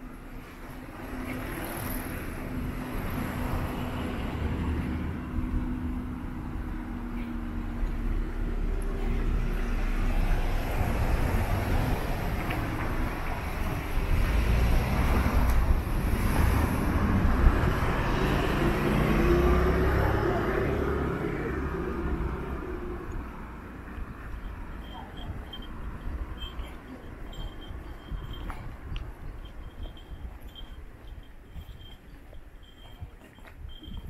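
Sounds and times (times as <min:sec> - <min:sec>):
vehicle engine: 0:00.0 - 0:28.8
road noise: 0:00.0 - 0:34.0.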